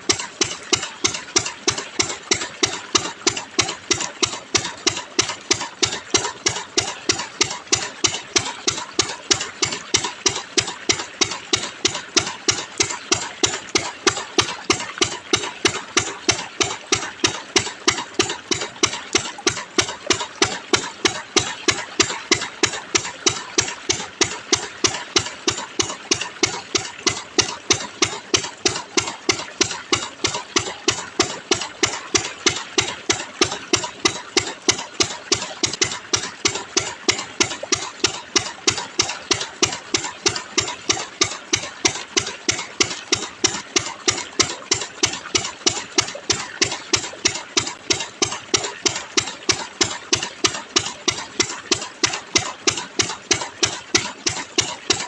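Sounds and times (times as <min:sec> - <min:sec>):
engine-like machine running: 0:00.0 - 0:55.0.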